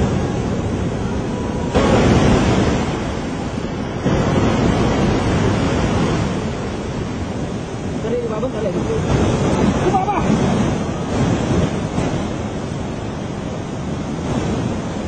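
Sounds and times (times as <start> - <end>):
surging water rushing: 0.0 - 15.0.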